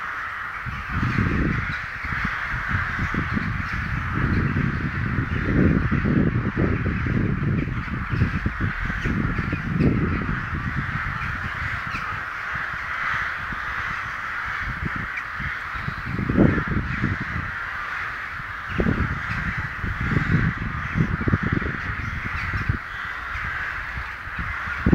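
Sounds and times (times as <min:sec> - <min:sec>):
crows cawing: 0:00.0 - 0:24.9
wind rumble on microphone: 0:00.0 - 0:24.9.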